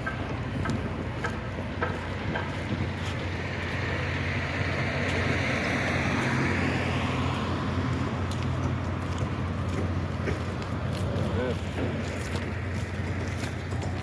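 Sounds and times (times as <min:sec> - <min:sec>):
steady engine hum: 0:00.0 - 0:14.0
vehicle passing: 0:01.2 - 0:14.0.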